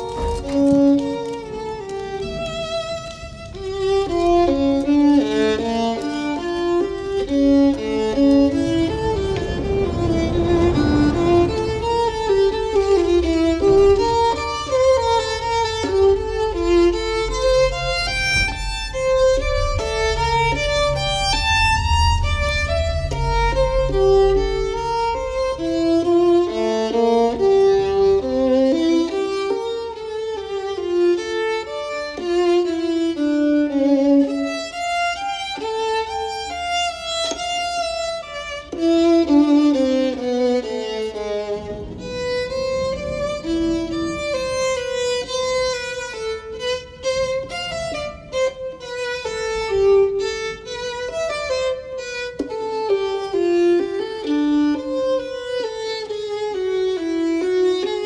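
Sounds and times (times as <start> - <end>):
slow solo violin melody: 0.0 - 58.0.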